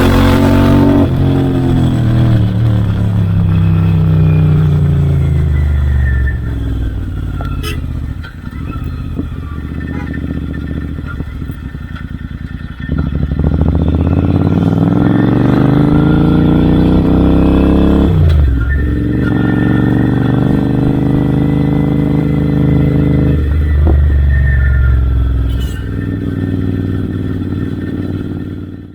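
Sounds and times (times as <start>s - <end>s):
motorcycle accelerating: 0.0s - 28.9s
motorcycle engine burbling and popping: 0.0s - 28.9s.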